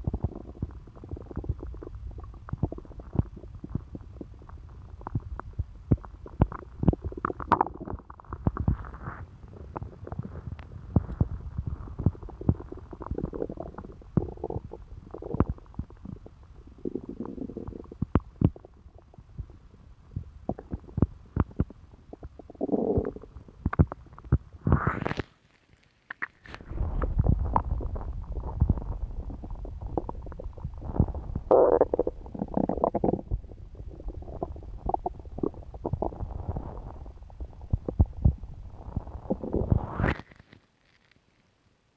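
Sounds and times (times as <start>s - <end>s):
stomach gurgling: 0.0s - 41.2s.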